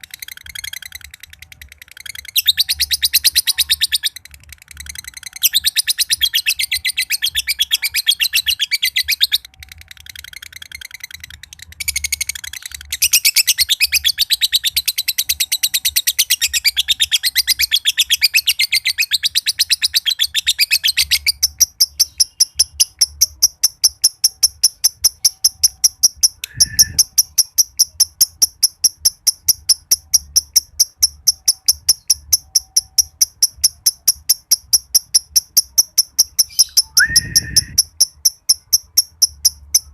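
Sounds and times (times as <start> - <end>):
lovebird chattering and chirping: 0.0 - 39.9.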